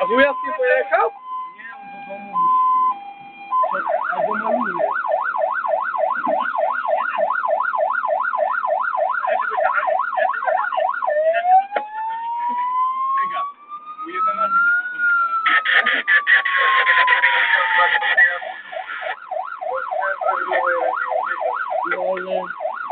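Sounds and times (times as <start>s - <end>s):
fire engine siren: 0.0s - 22.9s.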